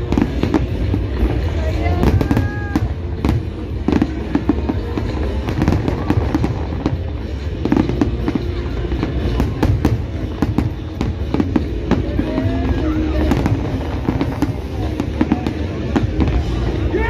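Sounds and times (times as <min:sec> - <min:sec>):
firework bangs and crackles: 0:00.0 - 0:17.0.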